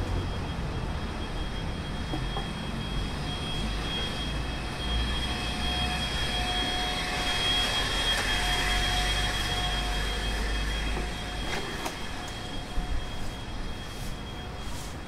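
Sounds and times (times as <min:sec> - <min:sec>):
high-pitched whine: 0:00.0 - 0:15.0
street traffic rumble: 0:00.0 - 0:15.0.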